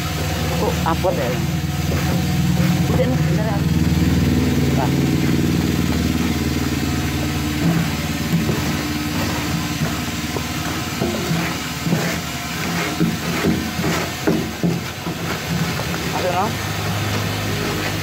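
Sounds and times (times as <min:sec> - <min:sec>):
spraying machine running: 0:00.0 - 0:18.0.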